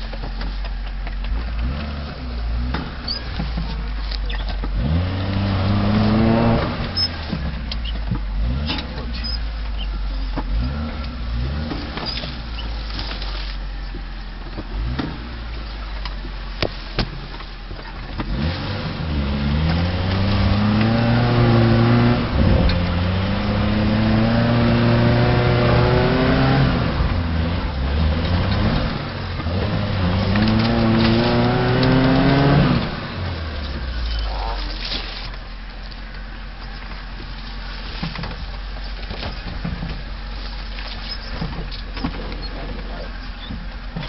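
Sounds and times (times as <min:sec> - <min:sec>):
engine rumbling and revving: 0:00.0 - 0:44.0.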